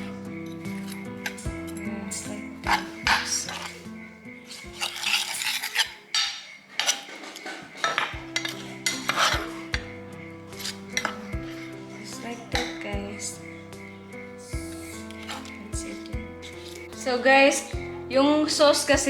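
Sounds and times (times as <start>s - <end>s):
background music: 0.0s - 6.2s, 8.0s - 19.0s
metal utensil scraping a pan: 0.0s - 17.9s.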